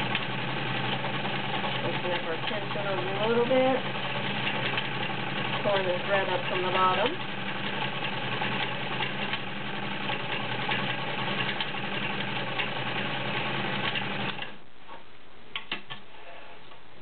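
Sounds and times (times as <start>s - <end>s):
sewing machine running: 0.0s - 14.6s.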